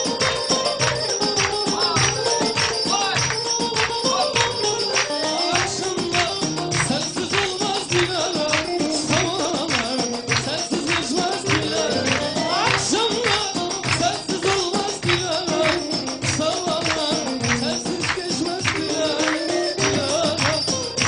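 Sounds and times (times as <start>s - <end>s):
upbeat dance music: 0.0s - 21.0s.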